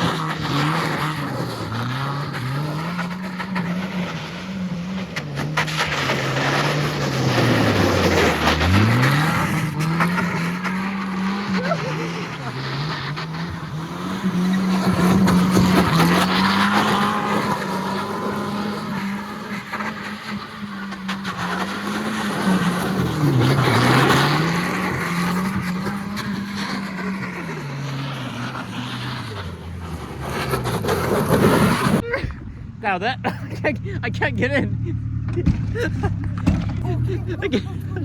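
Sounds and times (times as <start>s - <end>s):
car engine revving: 0.0s - 38.0s
tire and road noise: 0.0s - 38.0s.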